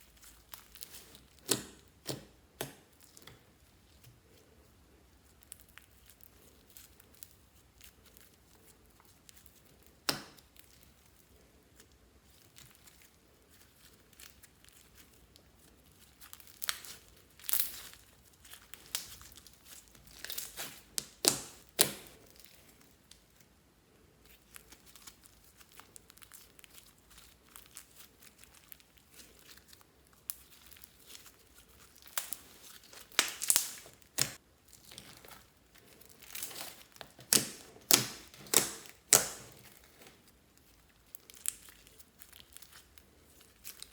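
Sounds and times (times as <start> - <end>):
slime popping and crackling: 0.0 - 4.1, 5.3 - 11.0, 13.7 - 23.3, 24.3 - 43.9.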